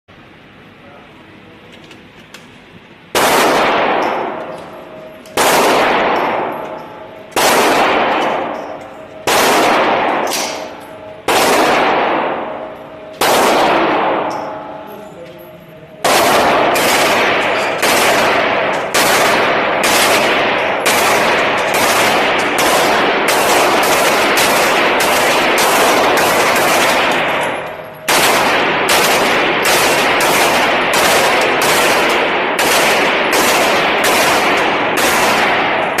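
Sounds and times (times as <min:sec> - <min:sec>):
rifle shots echoing indoors: 0:03.0 - 0:15.3, 0:15.9 - 0:36.0.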